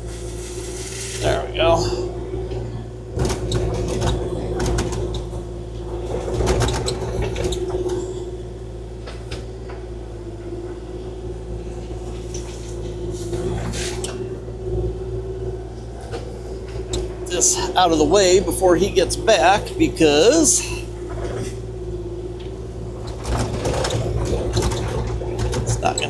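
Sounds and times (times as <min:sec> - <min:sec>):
excavator diesel engine humming: 0:00.0 - 0:26.0.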